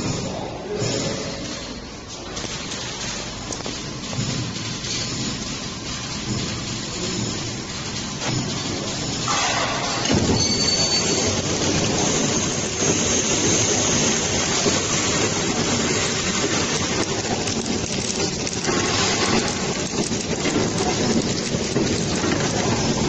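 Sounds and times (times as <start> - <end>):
packing machine rattling: 0.0 - 23.0.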